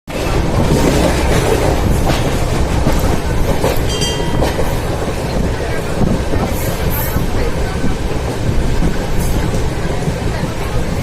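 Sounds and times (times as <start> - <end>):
train rumbling past: 0.1 - 11.0
train wheels clacking over rail joints: 0.1 - 11.0.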